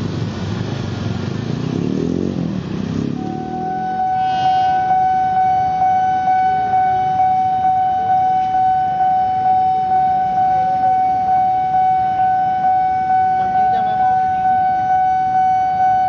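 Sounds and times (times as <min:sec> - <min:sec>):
traffic and train rumble: 0:00.0 - 0:16.0
level crossing alarm pulsing tone: 0:03.0 - 0:16.0.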